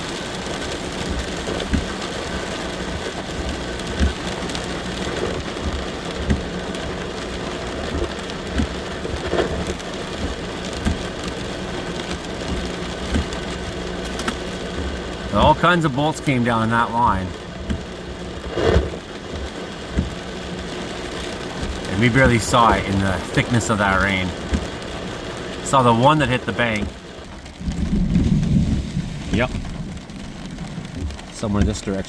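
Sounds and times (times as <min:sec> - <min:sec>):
heavy rain on vehicle roof: 0:00.0 - 0:32.0
vehicle engine hum: 0:00.0 - 0:32.0.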